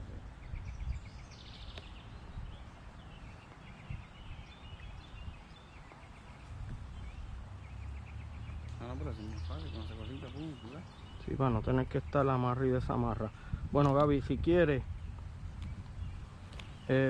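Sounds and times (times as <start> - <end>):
low microphone rumble: 0.0 - 17.0
small birds chirping: 0.0 - 17.0.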